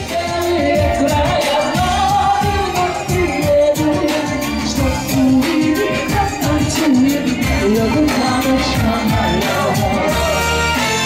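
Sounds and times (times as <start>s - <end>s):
woman singing into microphone: 0.0s - 10.4s
pop backing track with beat: 0.0s - 11.0s.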